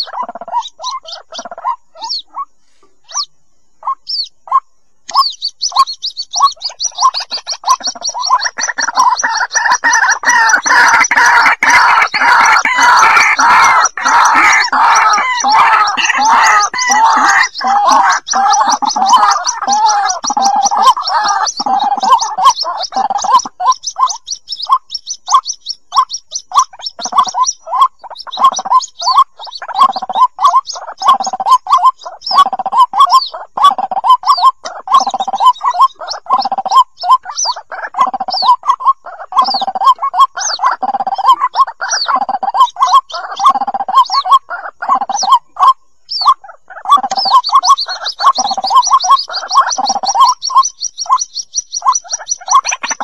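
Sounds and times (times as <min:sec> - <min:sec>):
bird chicks chattering calls: 0:00.0 - 0:53.0
high peeps: 0:00.0 - 0:53.0.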